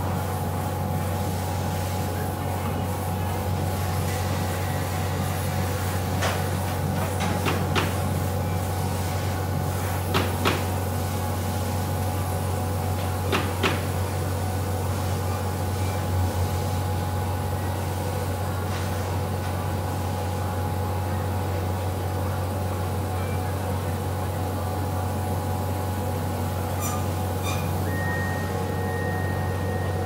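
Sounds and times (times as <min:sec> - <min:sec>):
laser cutting machine humming: 0:00.0 - 0:30.0.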